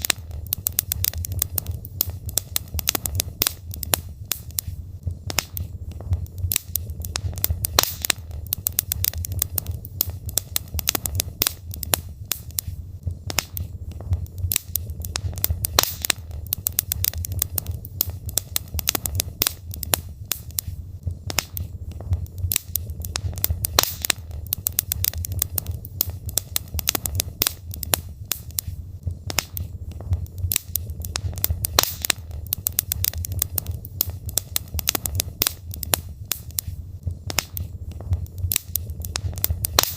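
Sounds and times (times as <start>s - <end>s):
logs crackling and popping: 0.0s - 39.9s
low fire rumble: 0.0s - 39.9s.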